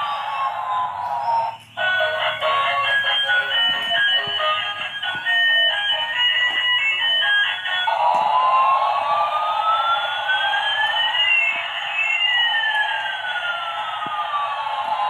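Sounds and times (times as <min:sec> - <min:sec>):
toy electronic jet-engine sound: 0:00.0 - 0:04.9, 0:06.9 - 0:15.0
toy beeping tune: 0:00.0 - 0:13.9.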